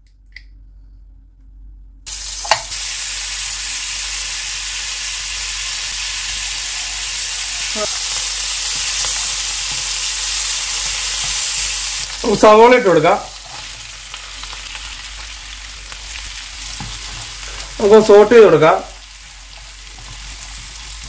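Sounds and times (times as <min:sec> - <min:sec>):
butter sizzling in a frying pan: 0:02.1 - 0:21.0.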